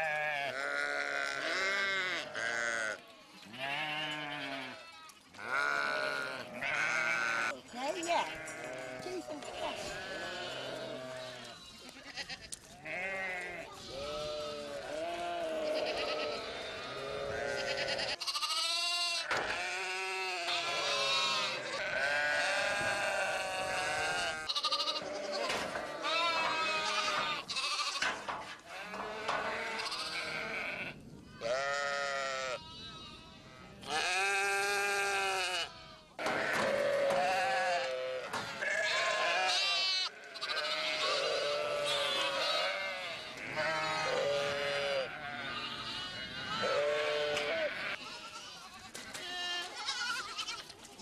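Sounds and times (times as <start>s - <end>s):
sheep and goats bleating: 0.0s - 51.0s.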